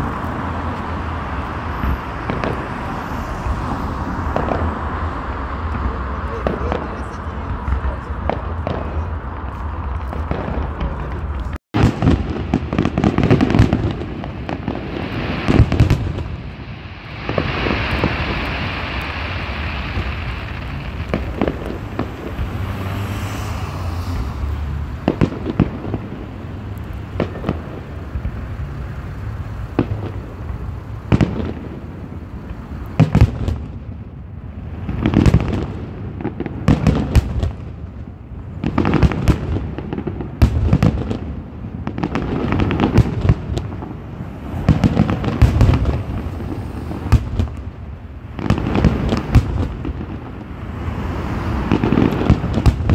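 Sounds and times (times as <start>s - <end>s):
fireworks bangs: 0.0s - 52.9s
fireworks crackling hiss: 0.0s - 52.9s.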